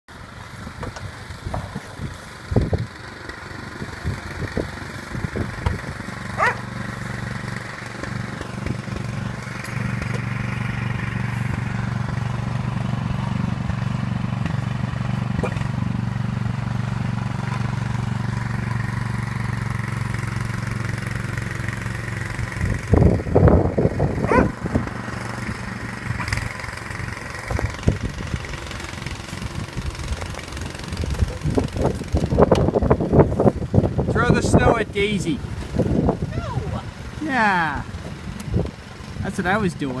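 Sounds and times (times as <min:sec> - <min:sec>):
engine running steadily: 0:00.1 - 0:40.0.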